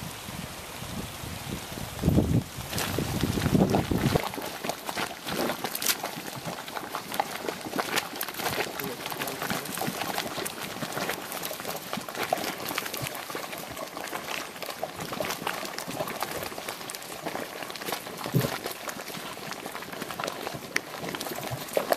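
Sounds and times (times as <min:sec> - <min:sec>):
mud pool bubbling and plopping: 0:00.0 - 0:21.9.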